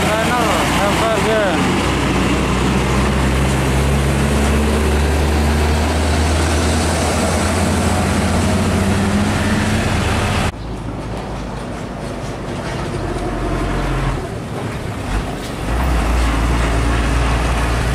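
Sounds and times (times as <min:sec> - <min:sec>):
diesel trucks passing: 0:00.0 - 0:17.9
tyre and road noise: 0:00.0 - 0:17.9.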